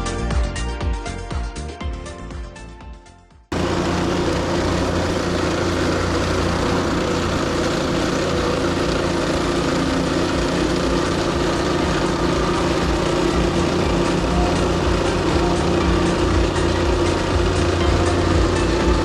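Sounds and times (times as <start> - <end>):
diesel engine running: 3.5 - 19.0.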